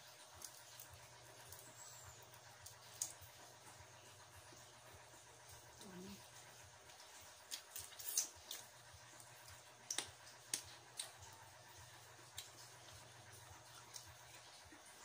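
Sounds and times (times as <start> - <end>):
people chewing and sucking food: 0.0 - 4.2, 4.9 - 15.0.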